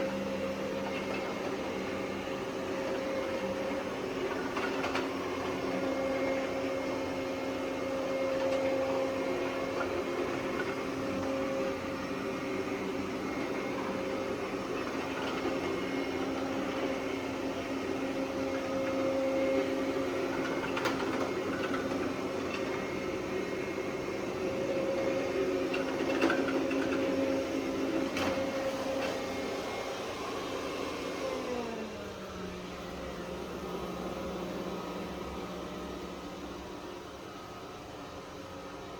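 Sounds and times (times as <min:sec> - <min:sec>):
robot vacuum motor hum: 0:00.0 - 0:37.9.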